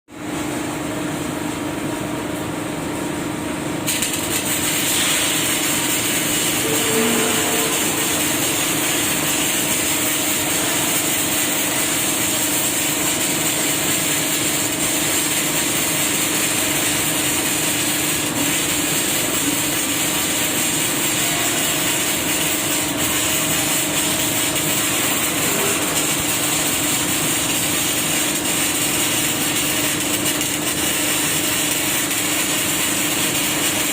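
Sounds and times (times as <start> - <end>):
factory machinery humming: 0.1 - 33.9.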